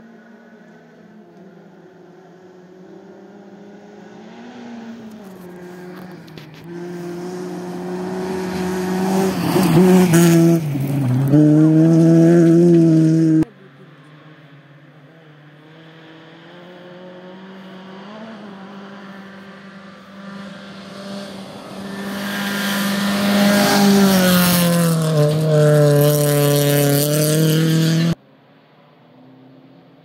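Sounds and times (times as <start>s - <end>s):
rally car engine: 0.0s - 30.0s.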